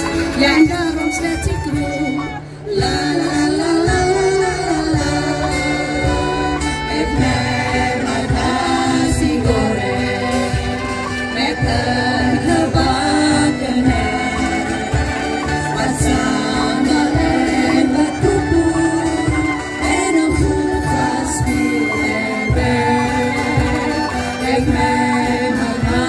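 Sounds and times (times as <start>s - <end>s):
acoustic guitar: 0.0s - 26.0s
cajon beat: 0.0s - 26.0s
woman singing: 0.0s - 26.0s.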